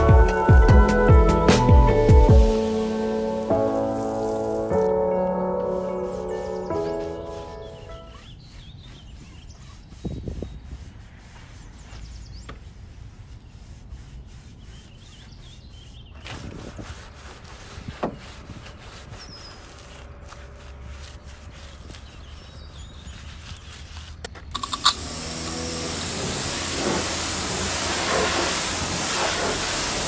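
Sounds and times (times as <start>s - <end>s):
scrubbing on a surface: 2.3s - 30.0s.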